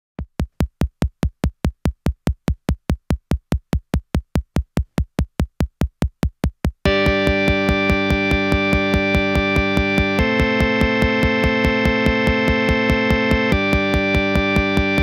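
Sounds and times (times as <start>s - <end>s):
drum machine kick drum: 0.2s - 15.0s.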